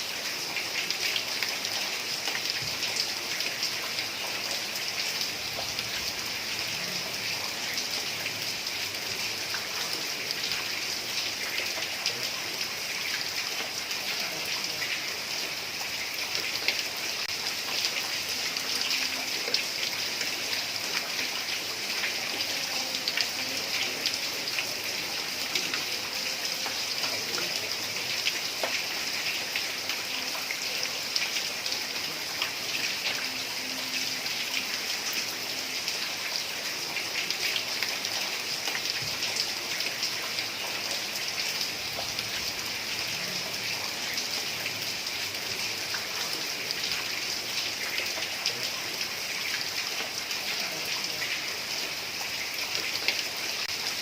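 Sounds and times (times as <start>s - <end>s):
heavy rain on a tiled roof: 0.0s - 54.0s.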